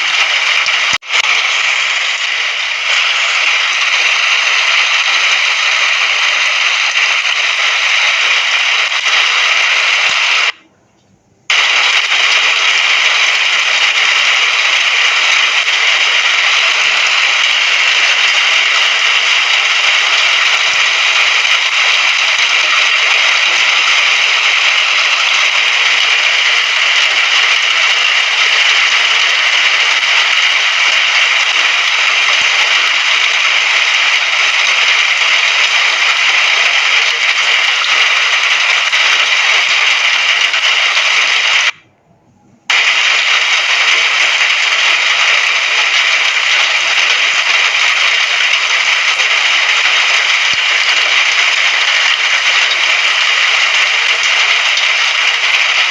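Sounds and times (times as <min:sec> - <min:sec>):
steady rain: 0:00.0 - 0:10.6, 0:11.5 - 0:41.8, 0:42.7 - 0:55.9.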